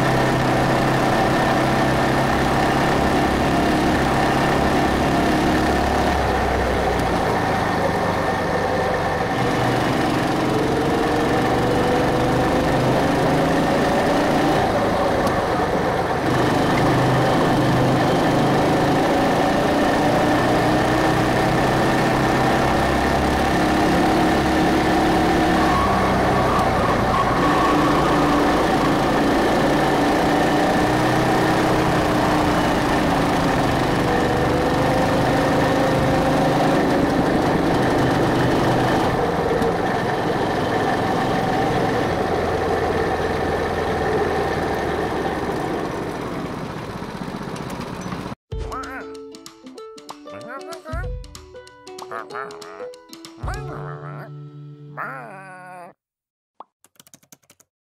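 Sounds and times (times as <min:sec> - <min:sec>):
go-kart engine running: 0:00.0 - 0:48.4.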